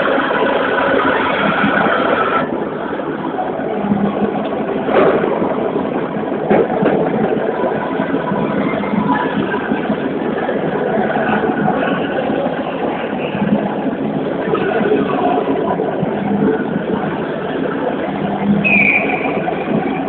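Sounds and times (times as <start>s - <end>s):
noisy din of indoor hall: 0.0s - 20.0s.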